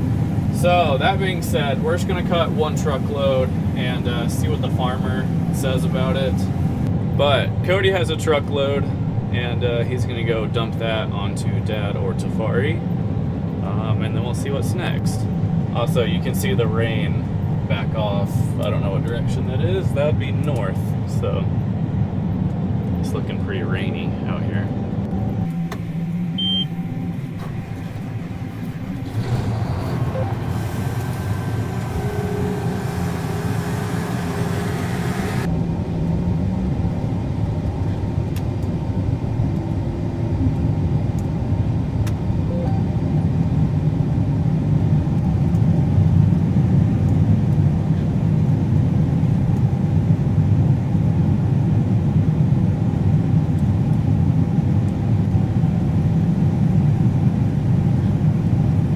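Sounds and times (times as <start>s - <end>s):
combine harvester humming: 0.0s - 58.9s.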